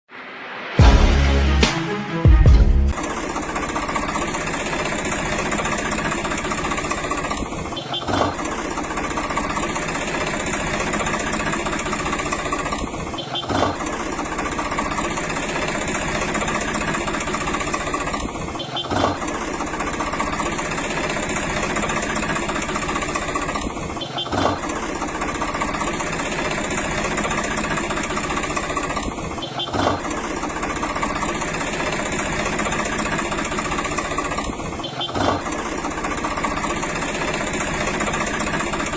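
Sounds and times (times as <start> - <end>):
tractor engine running: 0.8 - 38.9.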